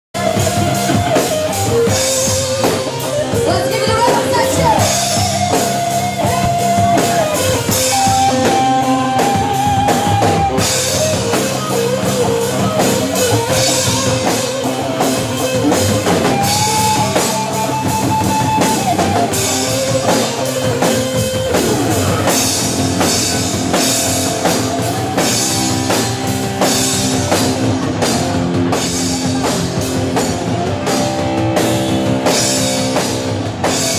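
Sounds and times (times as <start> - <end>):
bass guitar: 0.1 - 33.9
drum kit: 0.1 - 33.9
electric guitar melody: 0.1 - 33.9.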